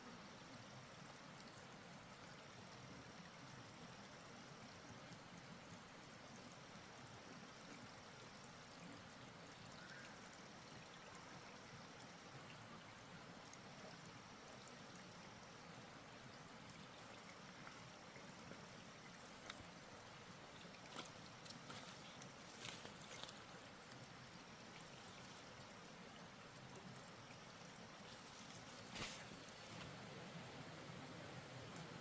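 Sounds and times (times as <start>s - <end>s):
faint running water: 0.0s - 32.0s.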